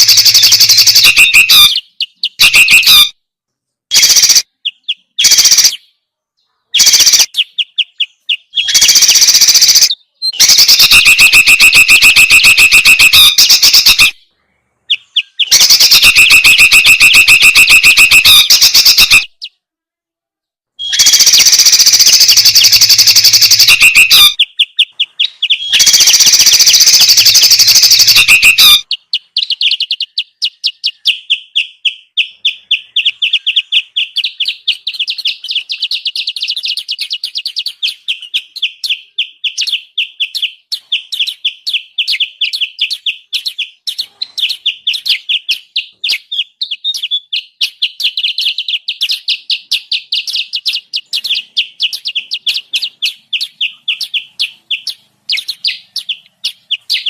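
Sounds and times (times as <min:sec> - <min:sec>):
sharp bird chips: 0:00.0 - 0:03.1, 0:03.9 - 0:06.0, 0:06.7 - 0:14.2, 0:14.9 - 0:19.6, 0:20.8 - 0:57.0
songbird chattering calls: 0:00.0 - 0:03.1, 0:03.9 - 0:14.2, 0:14.9 - 0:19.5, 0:20.8 - 0:57.0.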